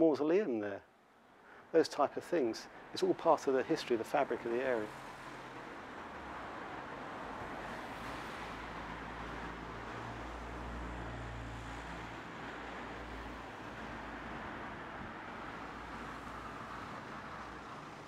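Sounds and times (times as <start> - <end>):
low traffic rumble: 1.1 - 18.0
cars driving past: 2.6 - 18.0.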